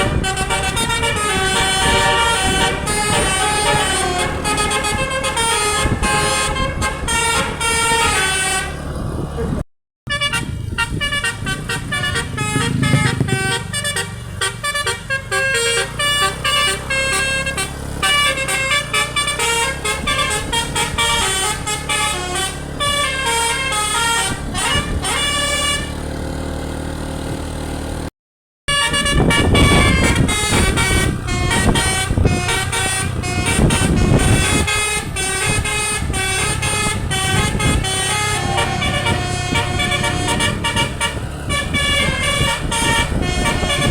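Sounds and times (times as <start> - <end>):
musical air horn melody: 0.0 - 8.9, 10.1 - 26.0, 28.7 - 43.9
heavy vehicle rumble: 0.0 - 28.1, 28.7 - 43.9.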